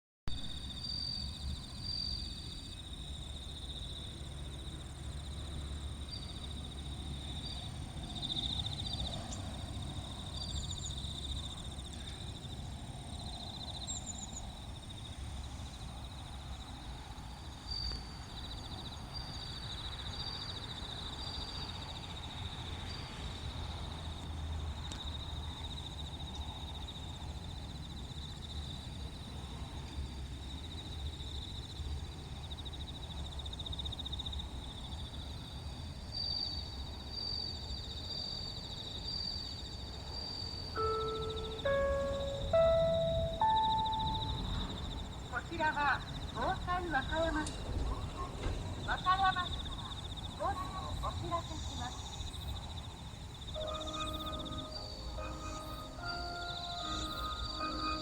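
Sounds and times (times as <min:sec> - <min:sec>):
insect chirps: 0:00.3 - 0:58.0
crickets trilling: 0:00.4 - 0:58.0.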